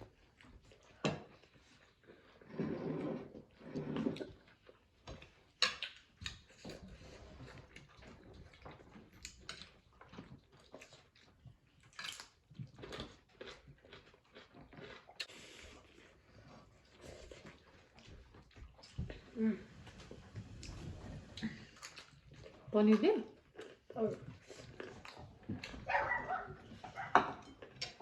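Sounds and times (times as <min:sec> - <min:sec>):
chewing and mouth noises: 0:00.0 - 0:02.4, 0:03.9 - 0:28.0.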